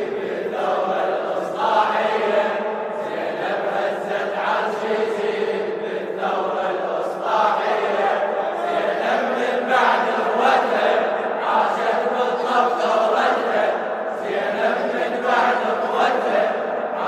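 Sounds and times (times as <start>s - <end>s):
lead reciter chanting: 0.0s - 17.0s
men chanting in unison: 0.0s - 17.0s.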